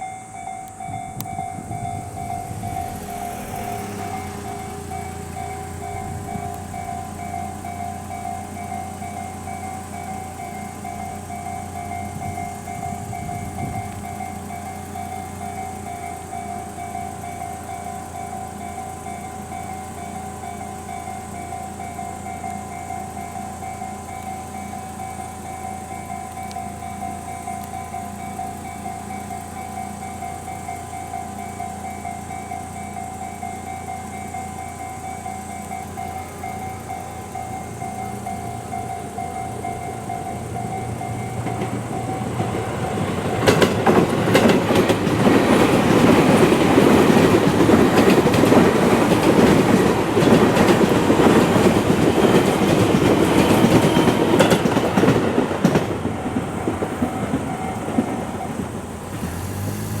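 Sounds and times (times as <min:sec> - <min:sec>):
level crossing warning bell: 0:00.0 - 0:59.2
electric train passing: 0:00.0 - 1:00.0
wheels clattering over rail joints: 0:00.0 - 1:00.0.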